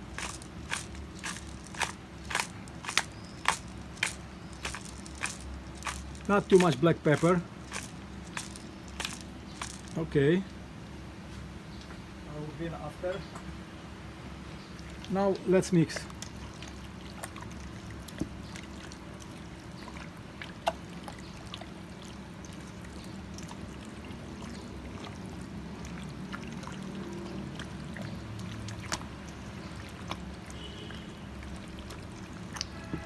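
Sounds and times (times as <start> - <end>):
hands squishing meat in marinade: 0.0 - 10.0, 16.0 - 33.0.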